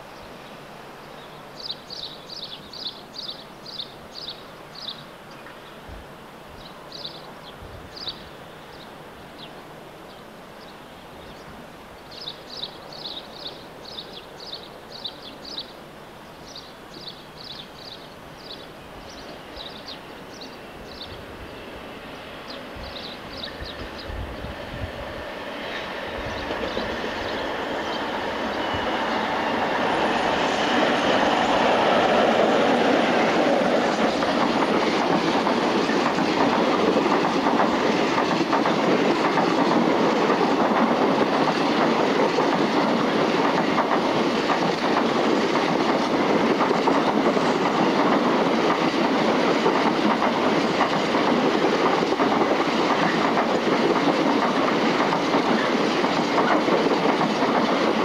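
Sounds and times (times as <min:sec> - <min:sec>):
diesel locomotive passing: 0:06.6 - 0:58.0.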